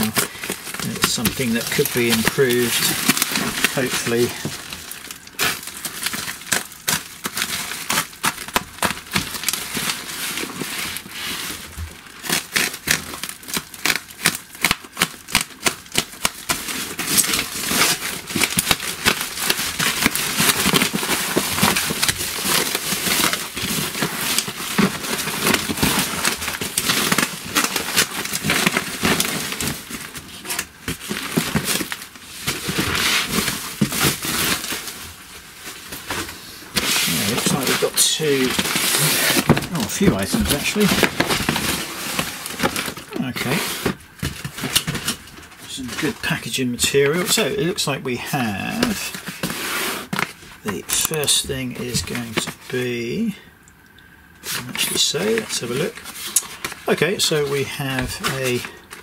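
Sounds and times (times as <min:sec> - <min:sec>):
plastic wrapping crinkling: 0:00.0 - 0:59.0.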